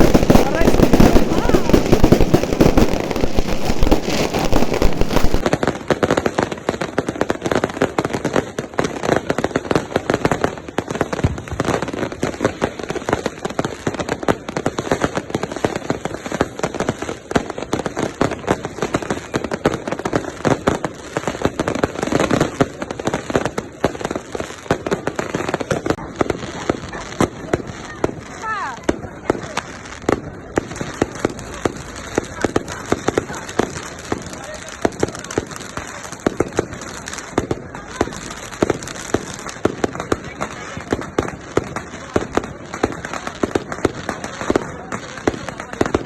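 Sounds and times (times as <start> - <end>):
firecrackers crackling rapid pops: 0.0 - 46.0.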